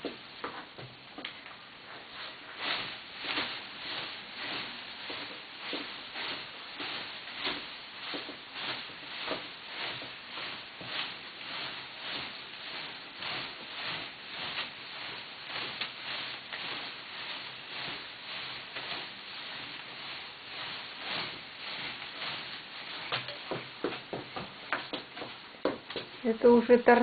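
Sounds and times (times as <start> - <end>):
satin ribbons rustling: 0.0 - 27.0.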